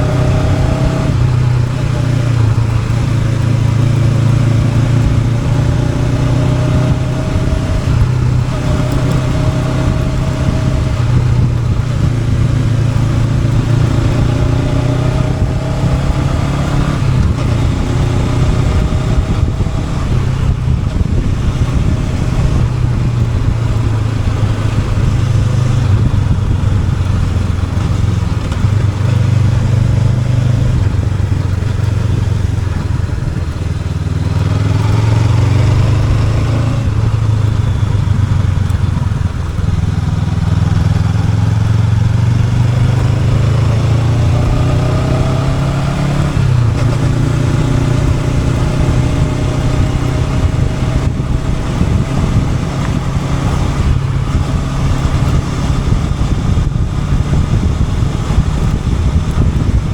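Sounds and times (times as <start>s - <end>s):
motorcycle engine accelerating: 0.0s - 59.9s
road and wind noise: 0.0s - 59.9s.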